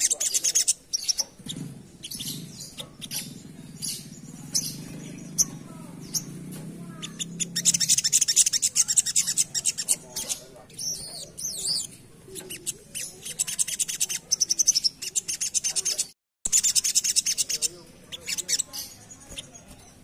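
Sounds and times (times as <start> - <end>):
bird chattering high chips: 0.0 - 20.0
bird warbling phrase: 3.0 - 19.8.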